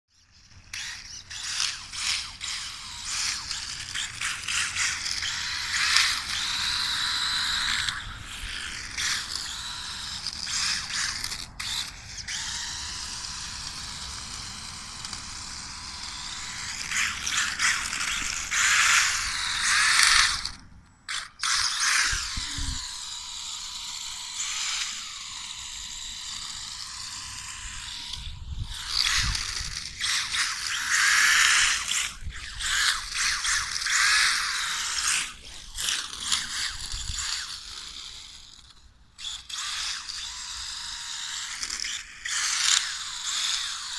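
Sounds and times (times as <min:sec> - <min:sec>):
rc car motor whining: 0:00.1 - 0:43.9.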